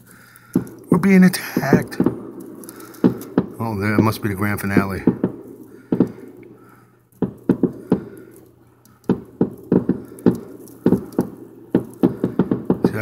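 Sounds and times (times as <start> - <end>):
fireworks bursting with sharp bangs: 0.0 - 13.0.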